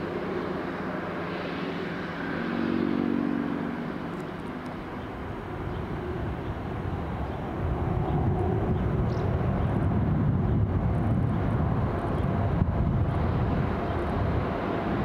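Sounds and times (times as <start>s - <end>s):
train passing close by: 0.0s - 15.0s.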